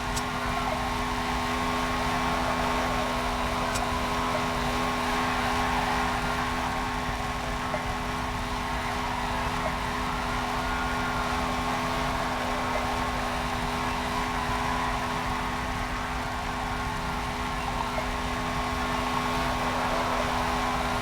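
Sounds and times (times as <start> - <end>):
car running steadily: 0.0 - 21.0.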